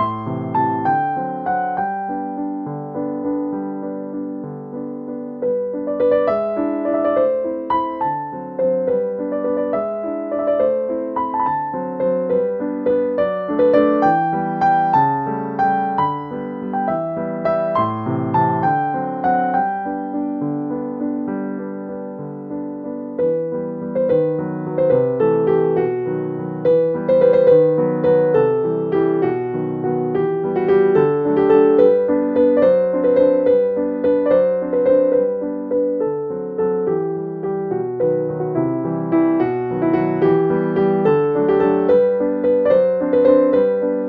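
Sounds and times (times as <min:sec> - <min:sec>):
gentle piano melody: 0:00.0 - 0:44.0.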